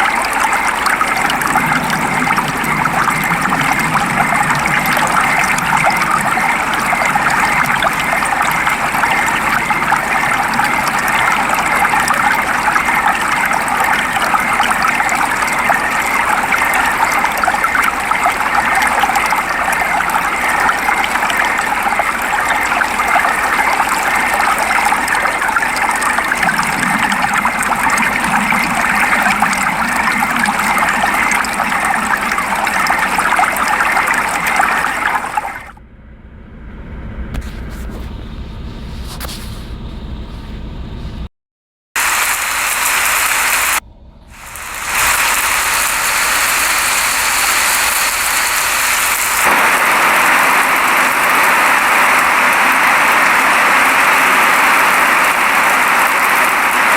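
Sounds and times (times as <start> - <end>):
steady rain hiss: 0.0 - 34.5, 42.0 - 43.8, 44.4 - 56.9.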